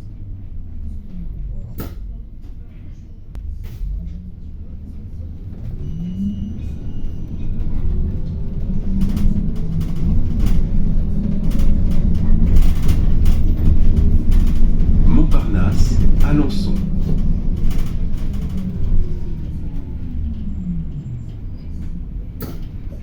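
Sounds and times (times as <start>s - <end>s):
bus body knocking and rattling: 0.0s - 23.0s
bus engine rumble: 0.0s - 23.0s.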